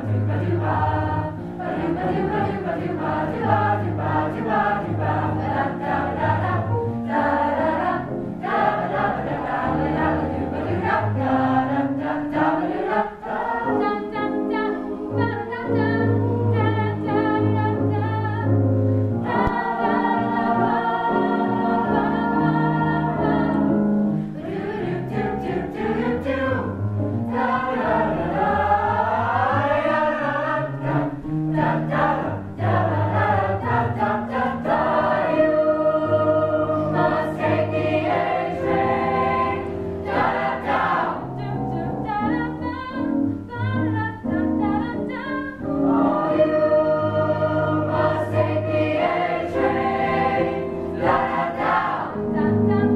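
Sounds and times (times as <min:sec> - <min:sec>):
choir singing in harmony: 0:00.0 - 0:52.9.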